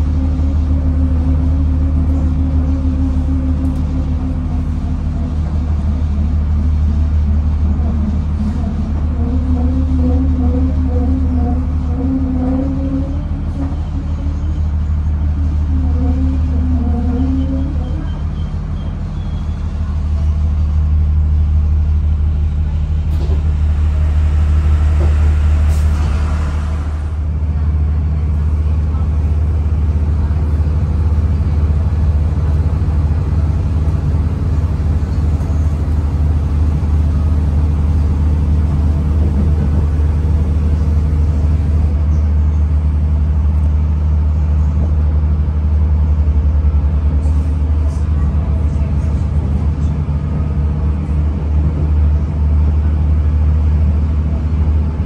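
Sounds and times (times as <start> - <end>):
train engine droning: 0.0 - 55.0
train running gear rumbling: 0.0 - 55.0.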